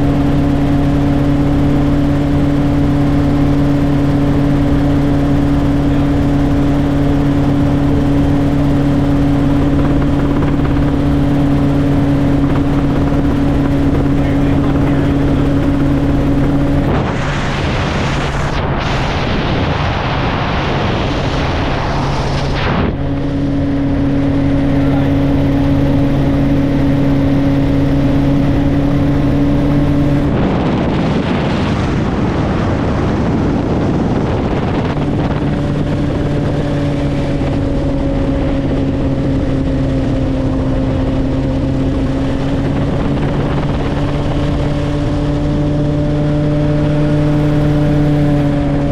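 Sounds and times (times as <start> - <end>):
helicopter engine and rotor droning: 0.0 - 48.9
rushing wind-like noise: 0.0 - 48.9.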